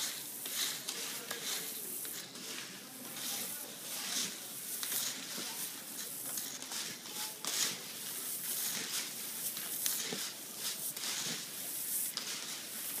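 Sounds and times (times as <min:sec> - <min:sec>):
coffee beans rustling and rattling: 0:00.0 - 0:13.0.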